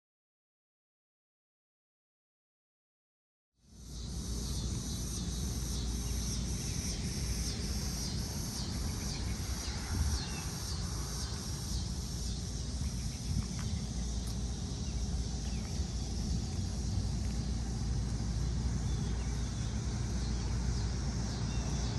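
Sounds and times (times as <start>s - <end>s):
night insects chirping: 3.6s - 21.9s
low steady rumble: 3.7s - 21.9s.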